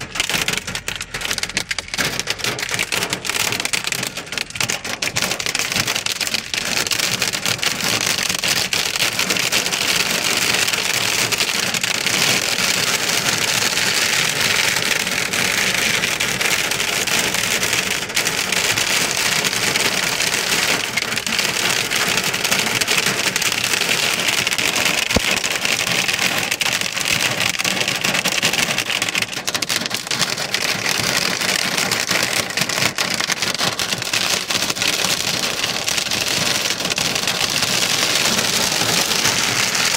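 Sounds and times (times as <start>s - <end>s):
hail and rain drumming on car: 0.0s - 39.9s.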